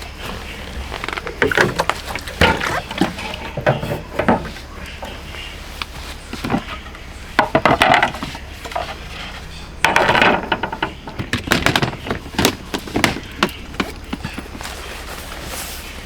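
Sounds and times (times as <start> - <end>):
rattling bursts: 0.0 - 15.0
camping gear knocks and clatter: 0.0 - 16.0.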